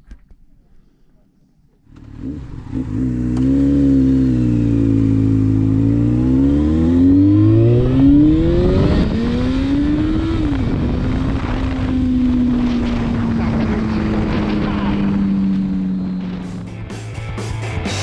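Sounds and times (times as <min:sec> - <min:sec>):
motorcycle engine accelerating: 0:01.9 - 0:18.0.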